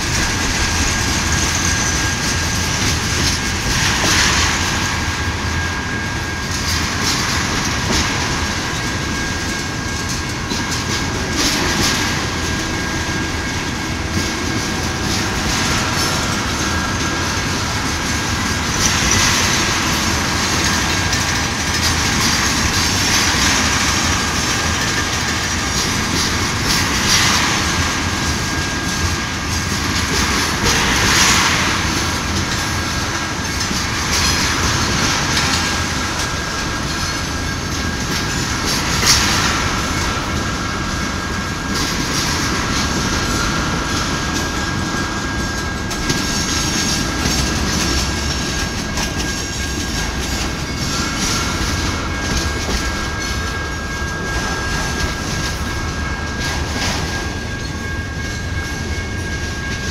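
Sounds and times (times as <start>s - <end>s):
train wheels clattering over joints: 0.0s - 59.9s.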